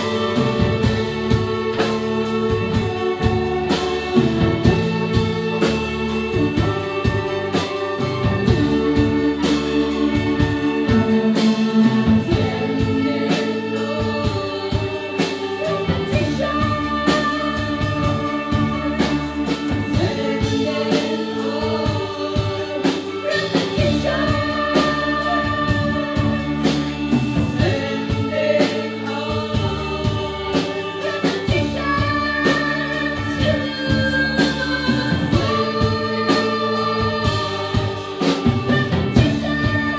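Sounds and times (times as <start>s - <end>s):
people singing: 0.0s - 39.9s.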